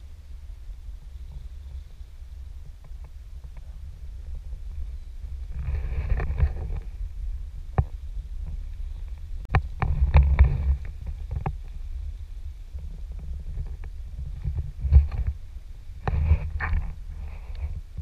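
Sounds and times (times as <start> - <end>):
low rumble of water and wind: 0.0 - 18.0.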